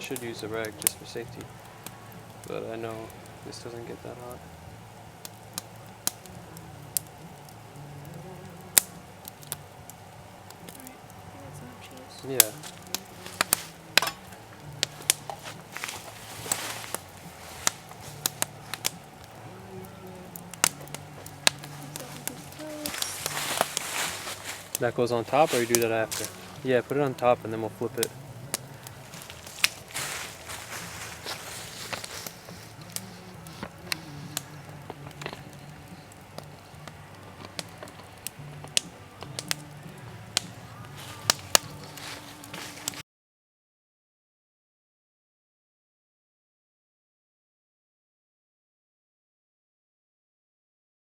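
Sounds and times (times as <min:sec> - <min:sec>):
burning wood popping: 0:00.0 - 0:43.0
campfire crackling: 0:00.0 - 0:43.0
soft background music: 0:00.0 - 0:43.0.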